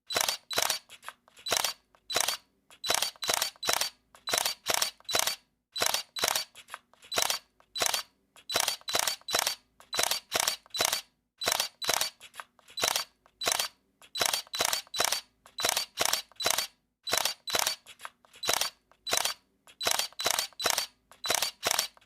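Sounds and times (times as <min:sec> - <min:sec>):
camera shutter clicking: 0:00.1 - 0:22.0.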